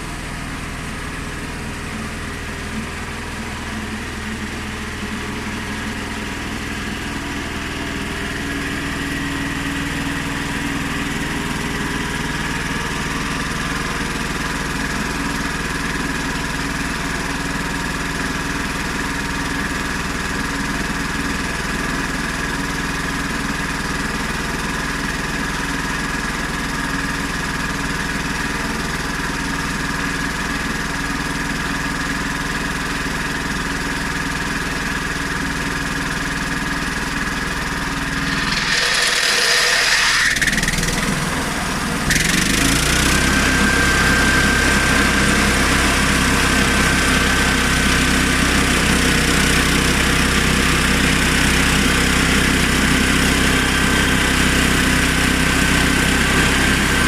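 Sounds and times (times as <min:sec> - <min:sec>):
petrol engine running: 0:00.0 - 0:57.0.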